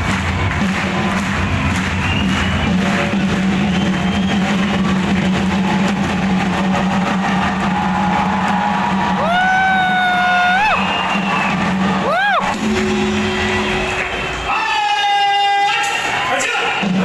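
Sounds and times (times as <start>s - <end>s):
dense crowd noise: 0.0s - 17.0s.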